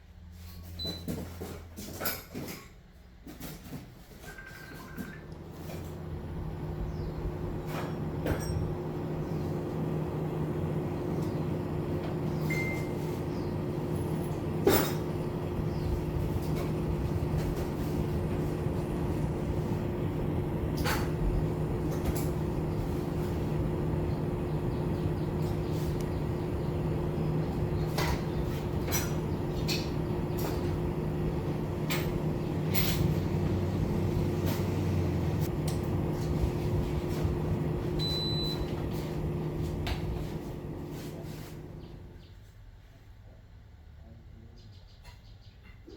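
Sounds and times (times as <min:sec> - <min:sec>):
air conditioner humming: 0:02.4 - 0:44.0.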